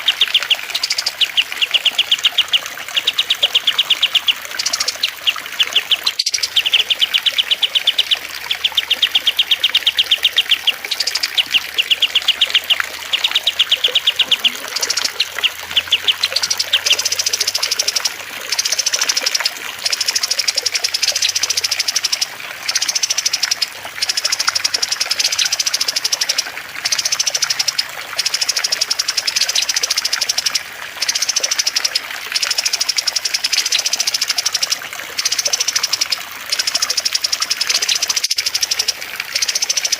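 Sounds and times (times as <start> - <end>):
songbirds singing trills: 0.0 - 39.9
trickling water: 0.0 - 39.9.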